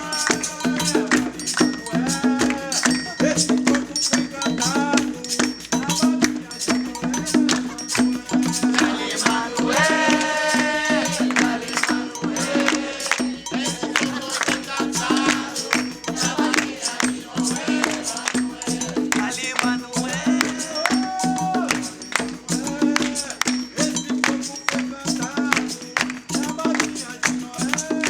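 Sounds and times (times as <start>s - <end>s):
person singing: 0.0s - 25.9s
drum beat: 0.0s - 28.0s
shaker rattle: 0.0s - 28.0s.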